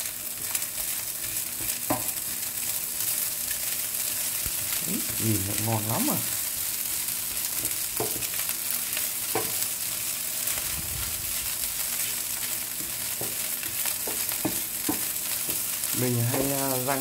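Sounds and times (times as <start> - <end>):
rice sizzling in frying pan: 0.0 - 17.0.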